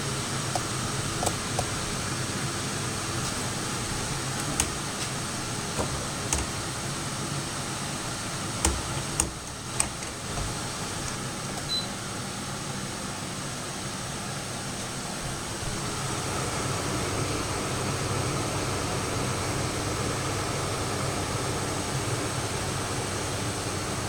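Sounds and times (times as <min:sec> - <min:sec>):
dehumidifier fan hum: 0:00.0 - 0:24.0.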